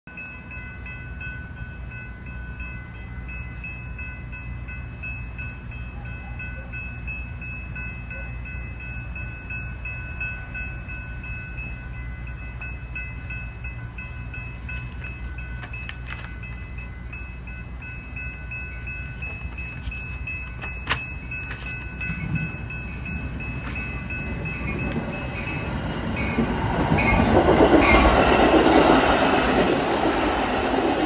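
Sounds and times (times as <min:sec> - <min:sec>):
crossing warning bell ringing: 0:00.1 - 0:31.0.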